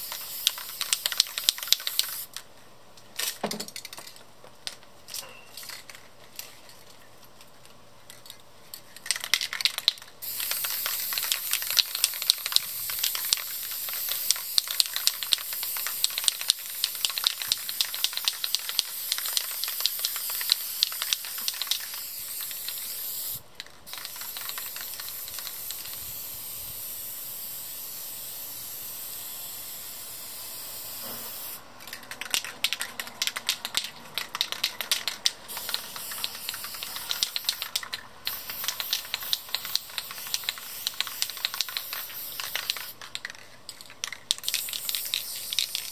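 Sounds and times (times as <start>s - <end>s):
spray can rattling: 0.0s - 2.4s, 3.2s - 4.9s, 5.6s - 7.0s, 8.1s - 45.9s
spray paint can hissing: 0.0s - 2.4s, 9.0s - 45.9s.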